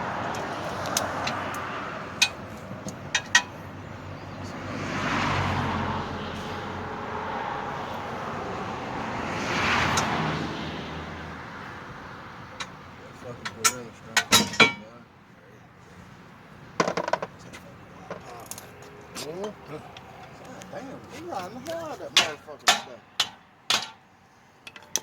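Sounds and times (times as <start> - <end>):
cars passing by: 0.0 - 25.0
steady traffic hum: 0.0 - 25.0.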